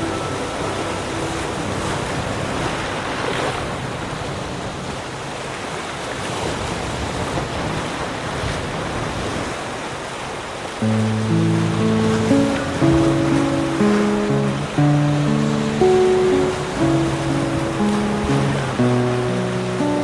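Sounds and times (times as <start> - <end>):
ocean surf washing onto beach: 0.0 - 20.0.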